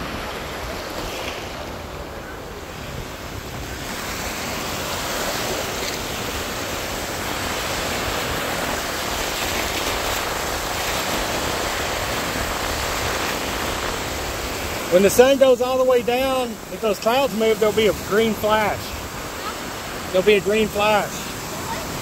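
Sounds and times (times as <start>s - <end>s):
small waves breaking: 0.0s - 22.0s.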